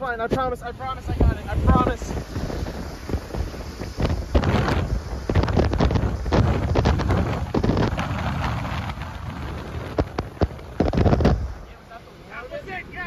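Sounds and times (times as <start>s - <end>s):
rain: 0.0s - 13.0s
vehicle road noise: 0.0s - 13.0s
wind buffeting microphone: 0.0s - 13.0s.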